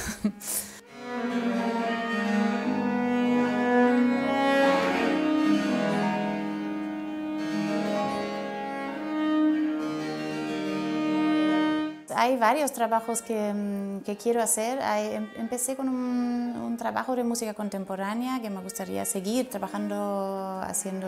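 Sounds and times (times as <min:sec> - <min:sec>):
viola da gamba bowing: 0:00.9 - 0:21.0.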